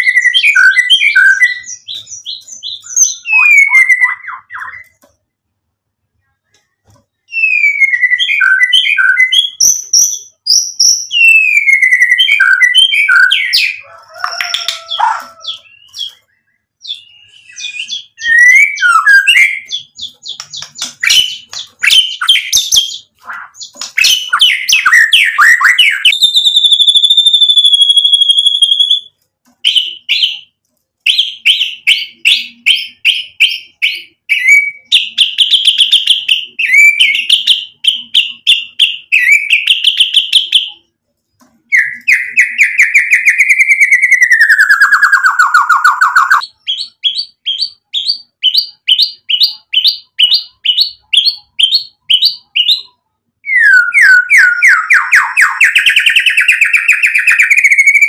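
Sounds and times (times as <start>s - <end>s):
bird singing trills: 0.0s - 5.0s, 7.2s - 30.5s, 31.1s - 40.9s, 41.6s - 58.0s.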